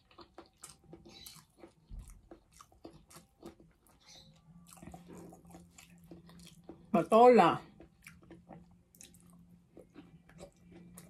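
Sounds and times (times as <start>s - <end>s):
wet chewing: 0.0s - 6.9s, 7.6s - 11.0s.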